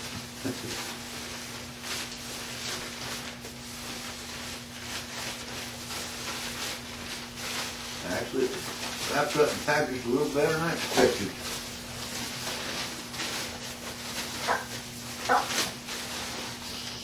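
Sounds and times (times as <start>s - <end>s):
packing material rustling: 0.0s - 17.0s.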